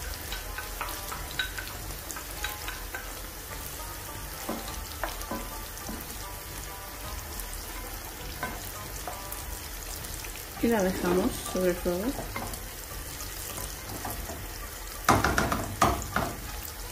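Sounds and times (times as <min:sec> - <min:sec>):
slices sizzling in hot oil: 0:00.0 - 0:16.9
wooden spoon stirring sauce: 0:00.0 - 0:16.9.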